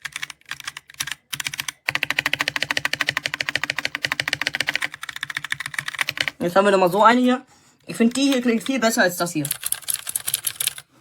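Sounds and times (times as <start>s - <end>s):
typing on mechanical keyboard: 0.0s - 6.4s, 7.9s - 10.9s.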